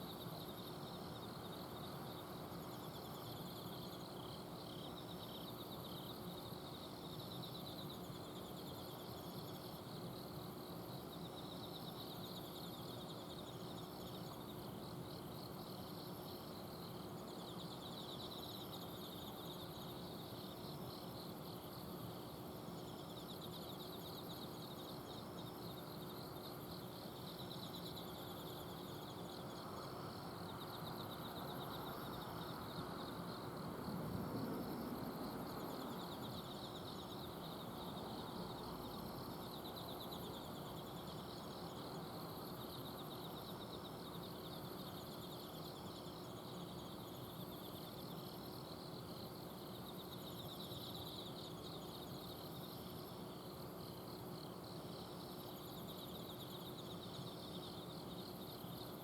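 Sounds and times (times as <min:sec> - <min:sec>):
insects trilling: 0:00.0 - 0:59.0
high thin insect chirping: 0:11.0 - 0:59.0.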